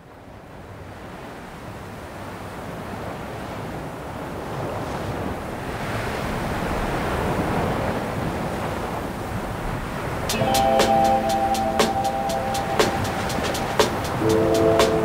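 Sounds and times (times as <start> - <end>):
ocean waves breaking on beach: 2.6 - 15.0.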